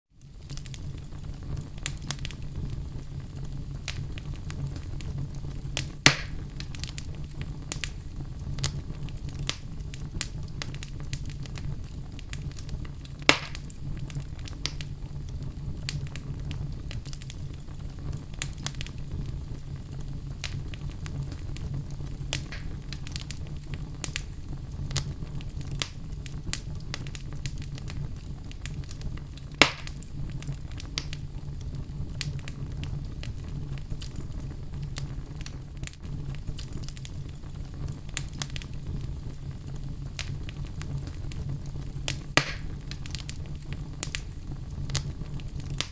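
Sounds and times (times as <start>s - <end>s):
campfire crackling: 0.2s - 45.9s
sharp pops from burning wood: 0.2s - 45.9s.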